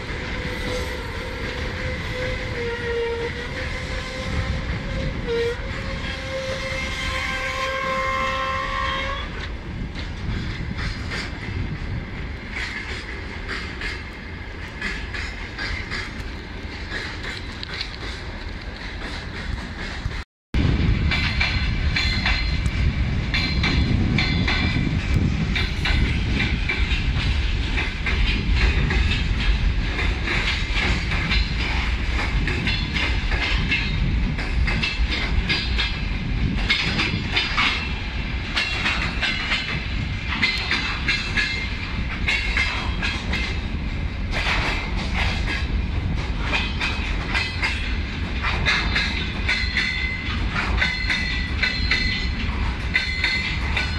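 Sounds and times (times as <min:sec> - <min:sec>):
wheels clacking over rail joints: 0:00.0 - 0:20.2, 0:21.0 - 0:53.9
freight train rumbling past: 0:00.0 - 0:53.9.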